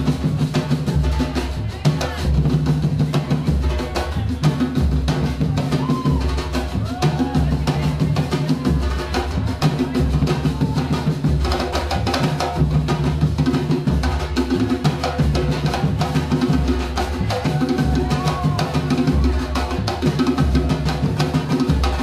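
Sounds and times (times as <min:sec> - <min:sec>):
drum ensemble playing: 0:00.0 - 0:22.0.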